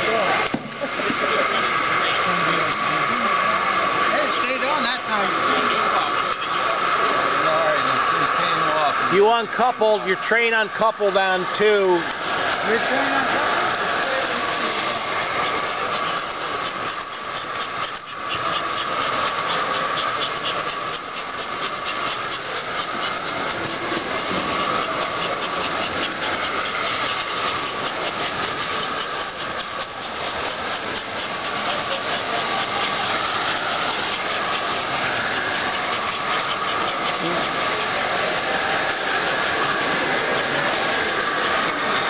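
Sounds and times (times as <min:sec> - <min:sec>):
model train motors whirring: 0:00.0 - 0:42.0.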